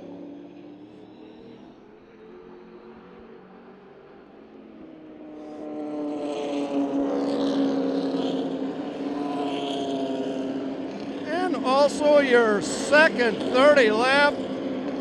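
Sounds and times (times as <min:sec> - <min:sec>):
racing engine passing at full throttle: 0:01.1 - 0:15.0.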